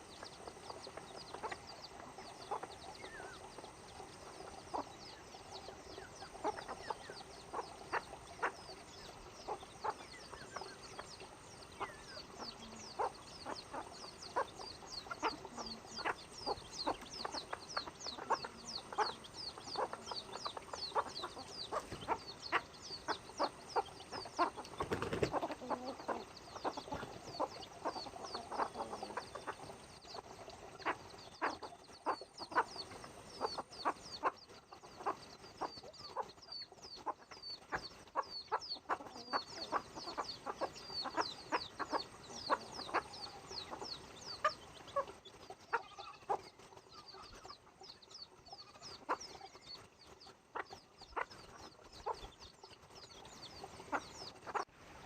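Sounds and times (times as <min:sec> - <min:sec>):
chickens clucking: 0:00.0 - 0:54.7.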